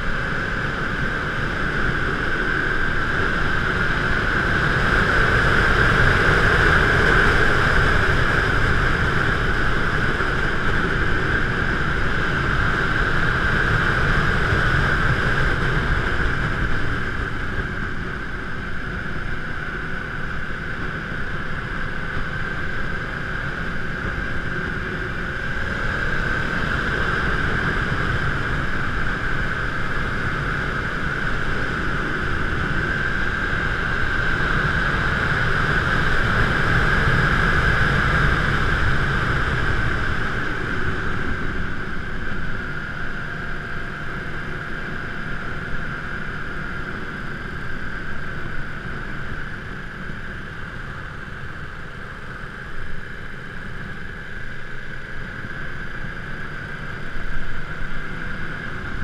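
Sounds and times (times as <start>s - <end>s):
road rumble: 0.0s - 59.0s
wind rushing over microphone: 0.0s - 59.0s.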